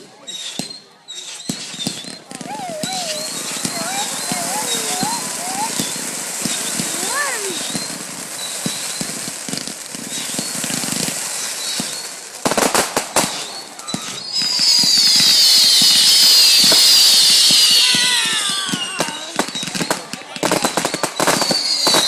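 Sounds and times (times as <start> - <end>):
firework cracks: 0.0 - 22.0
fireworks hissing and whistling: 0.0 - 22.0.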